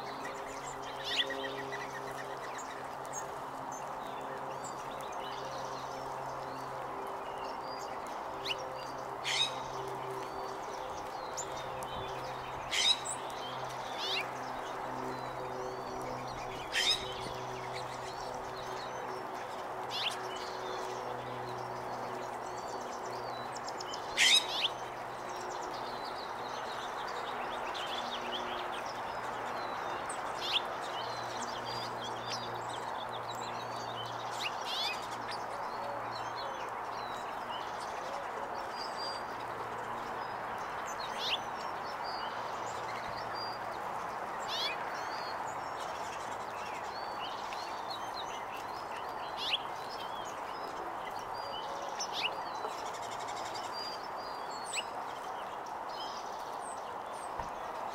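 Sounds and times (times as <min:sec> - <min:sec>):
songbirds chirping: 0:00.0 - 0:57.9.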